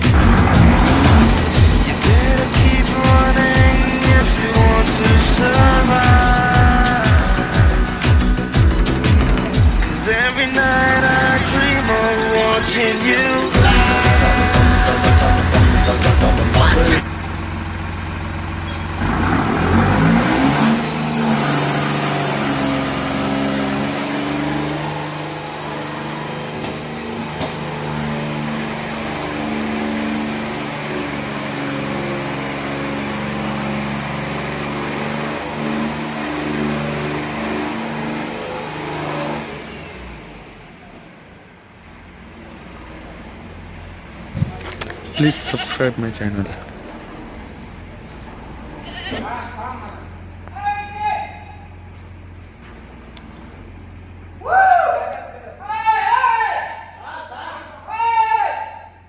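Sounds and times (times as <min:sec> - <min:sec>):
tractor diesel engine revving: 0:00.0 - 0:50.5, 0:51.4 - 0:54.4.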